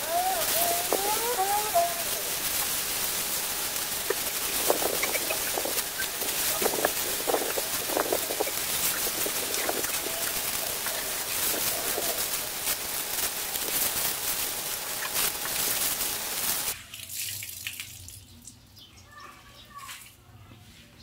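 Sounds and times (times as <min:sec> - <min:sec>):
hose water splashing on tiles: 0:00.0 - 0:18.6.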